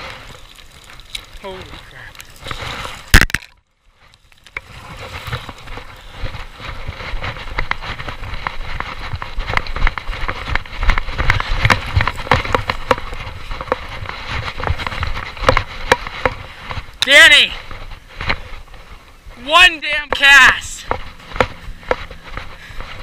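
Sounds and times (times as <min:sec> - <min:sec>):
footsteps crunching through dry grass: 0:03.9 - 0:23.0.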